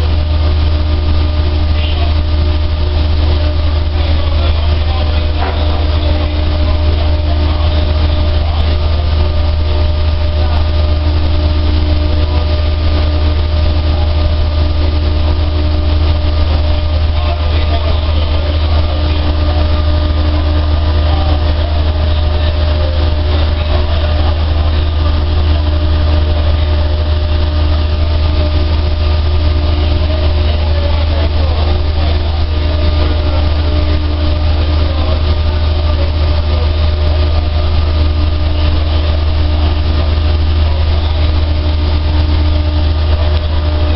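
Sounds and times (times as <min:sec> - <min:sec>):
dryer humming: 0:00.0 - 0:43.9.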